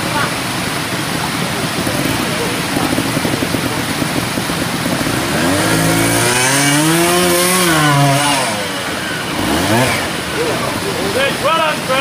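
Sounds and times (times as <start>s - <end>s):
motorcycle engine revving hard: 0.0s - 12.0s.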